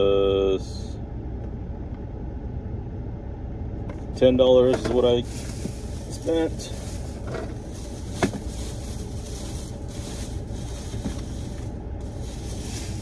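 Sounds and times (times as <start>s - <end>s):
car cabin rumble and hiss: 0.0s - 13.0s.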